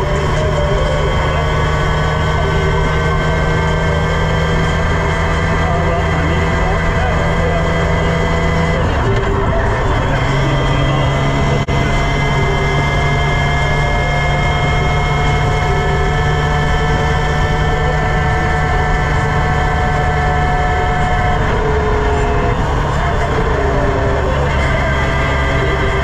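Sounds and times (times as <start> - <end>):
motorcycle engine cruising: 0.0 - 26.0.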